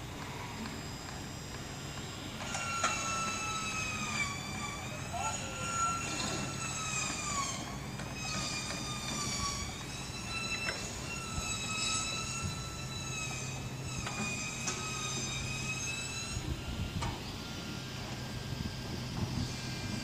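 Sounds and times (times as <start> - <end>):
machinery whine: 0.0 - 20.0.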